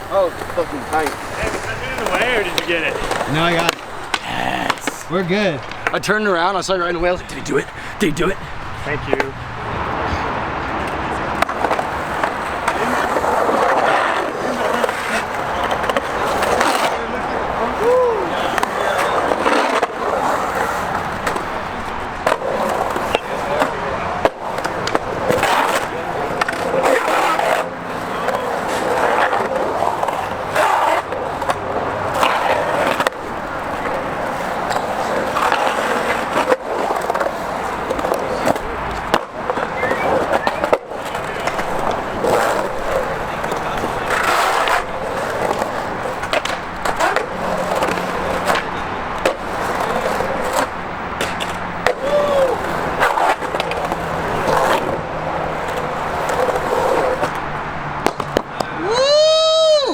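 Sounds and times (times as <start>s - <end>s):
skateboard clacks: 0.0s - 59.8s
skateboard wheels rolling on concrete: 0.0s - 59.9s.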